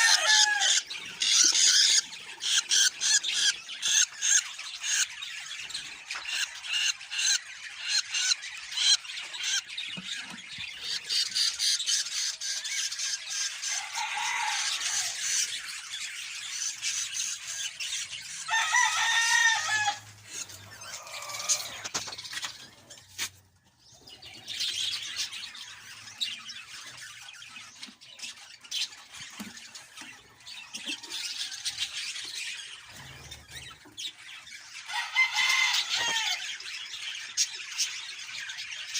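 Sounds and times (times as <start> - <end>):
budgerigars chirping: 0.0 - 23.0, 23.9 - 38.9.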